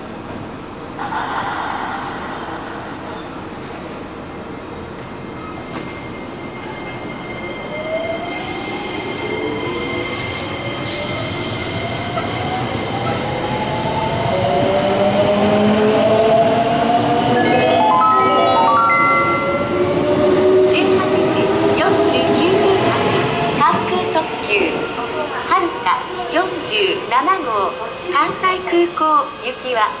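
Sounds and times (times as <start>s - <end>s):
running train noise: 0.0s - 30.0s.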